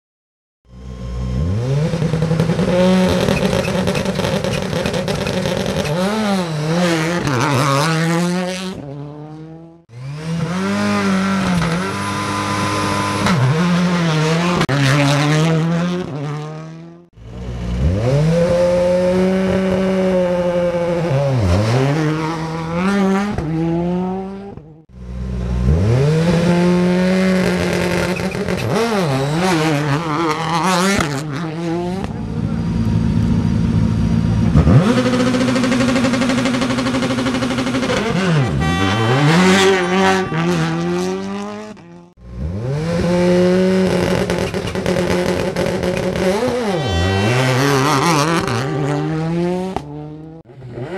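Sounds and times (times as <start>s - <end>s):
rally car engines at full throttle: 0.7s - 50.9s.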